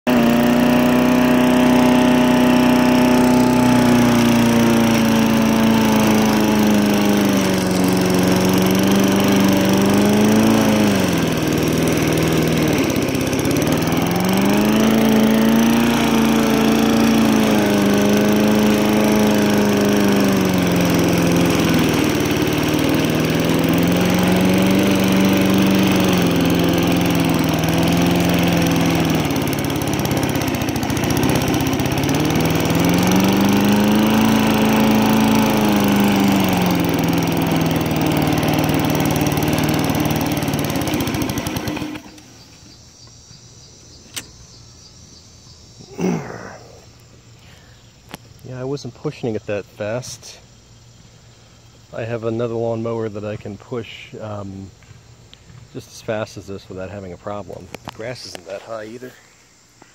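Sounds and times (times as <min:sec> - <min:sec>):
push mower engine cutting grass: 0:00.0 - 0:42.8, 0:45.9 - 0:50.4, 0:51.7 - 0:59.9.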